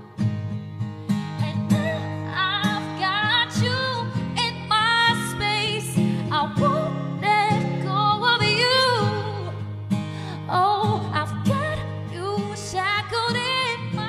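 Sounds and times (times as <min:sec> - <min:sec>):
plucked acoustic guitar: 0:00.0 - 0:14.0
woman singing: 0:01.3 - 0:14.0.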